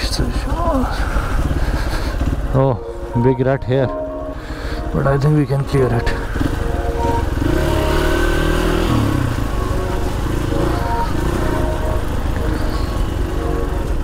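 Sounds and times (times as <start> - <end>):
motorcycle engine revving: 0.0 - 3.2, 5.1 - 14.0.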